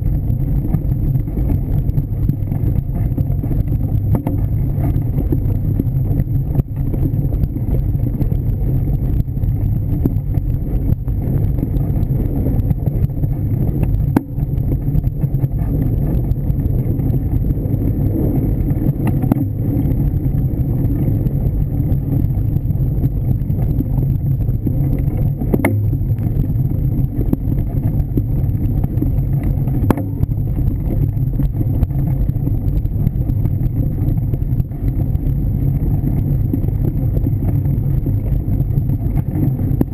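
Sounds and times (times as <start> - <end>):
bike tyre rumble on dirt trail: 0.0 - 39.9
wind on microphone: 0.0 - 39.9.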